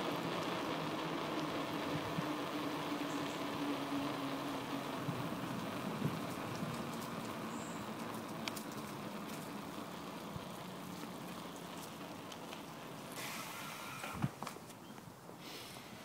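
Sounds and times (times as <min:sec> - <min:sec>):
bicycle tyres rolling on path: 0:00.0 - 0:16.0.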